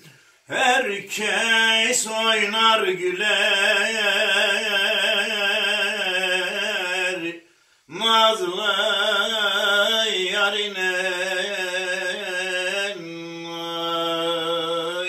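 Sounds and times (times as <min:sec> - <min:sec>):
man singing unaccompanied folk song: 0:00.0 - 0:15.0.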